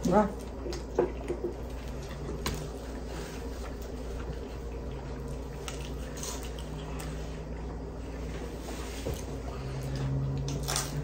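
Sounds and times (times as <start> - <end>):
chewing with mouth clicks: 0.0 - 11.0
low hum: 0.0 - 11.0.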